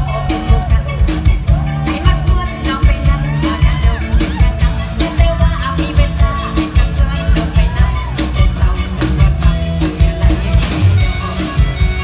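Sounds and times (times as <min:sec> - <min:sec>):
fast drum beat: 0:00.0 - 0:12.0
live band music through loudspeakers: 0:00.0 - 0:12.0
woman singing: 0:00.0 - 0:12.0.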